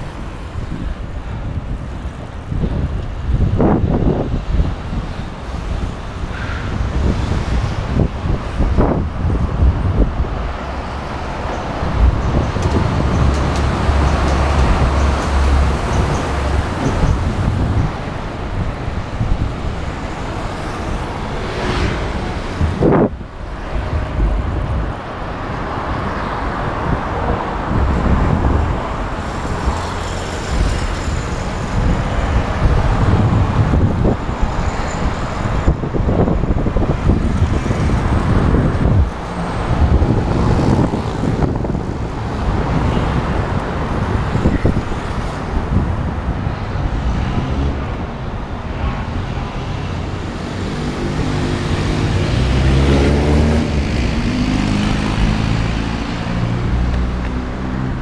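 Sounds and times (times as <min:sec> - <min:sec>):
cars passing by: 0:00.0 - 0:58.0.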